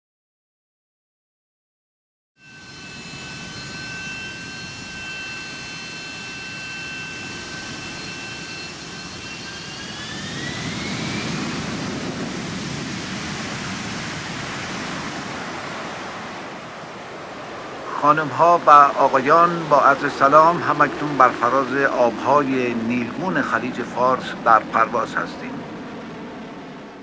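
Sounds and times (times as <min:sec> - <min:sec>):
jet engines whining in cabin: 0:02.4 - 0:27.0.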